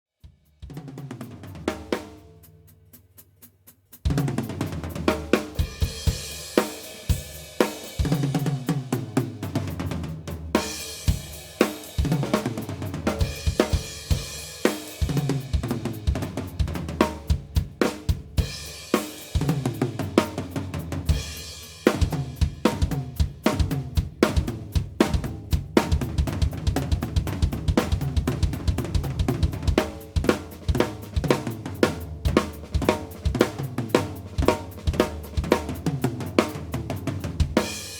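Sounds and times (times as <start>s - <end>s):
drum kit groove: 0.2s - 37.9s.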